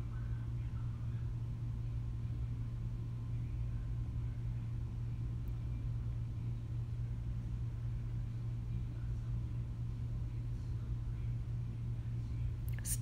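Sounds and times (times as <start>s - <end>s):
low-pitched hum with rumble: 0.0s - 13.0s.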